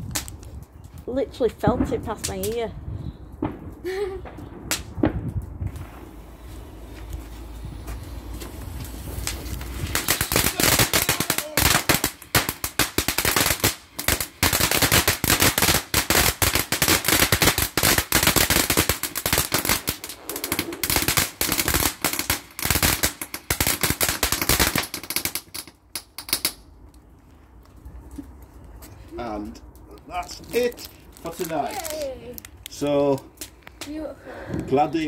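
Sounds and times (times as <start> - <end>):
fireworks bangs and crackles: 0.0 - 26.6, 30.5 - 32.1.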